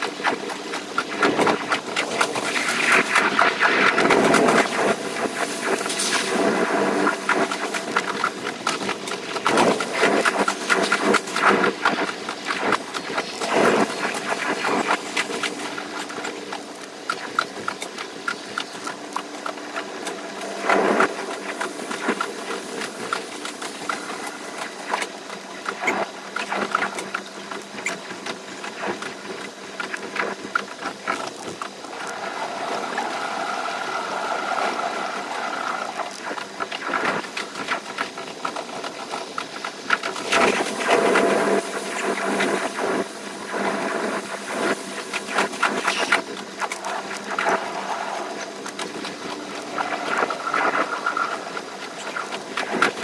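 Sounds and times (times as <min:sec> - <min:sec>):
train hum: 0:00.0 - 0:29.8, 0:30.4 - 0:53.0.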